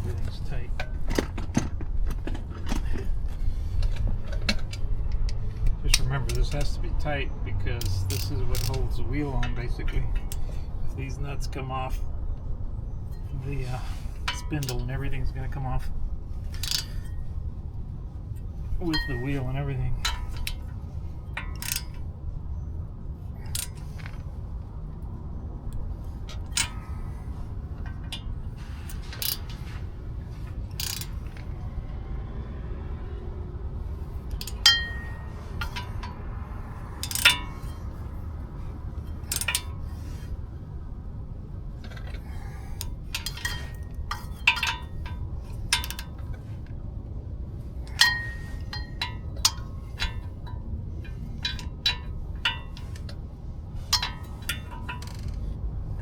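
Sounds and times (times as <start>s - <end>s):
low shop hum: 0.0s - 56.0s
ratchet clinking on metal: 2.6s - 11.5s, 13.0s - 22.7s, 23.3s - 24.4s, 25.7s - 31.8s, 33.8s - 46.8s, 47.4s - 56.0s.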